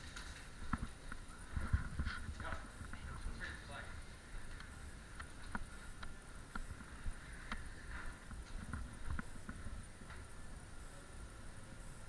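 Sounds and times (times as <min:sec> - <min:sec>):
footsteps: 0:00.0 - 0:10.3.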